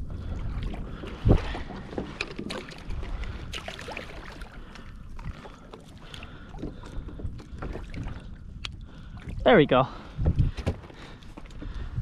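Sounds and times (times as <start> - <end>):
wind rumbling on microphone: 0.0 - 5.5, 6.3 - 12.0
water lapping against kayak hull: 0.0 - 12.0.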